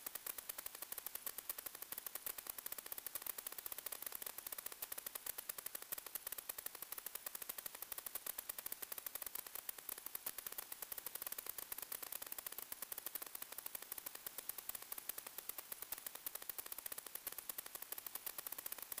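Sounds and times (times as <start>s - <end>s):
rapid crackle of clicks: 0.0s - 19.0s.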